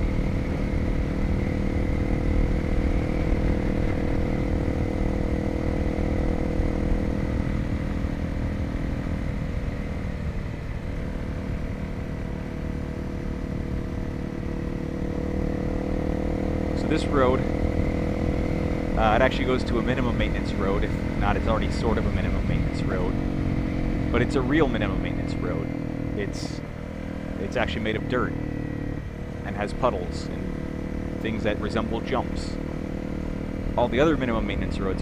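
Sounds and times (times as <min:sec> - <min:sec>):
motorcycle engine running: 0:00.0 - 0:35.0
road rumble: 0:00.0 - 0:35.0
wind: 0:00.0 - 0:35.0.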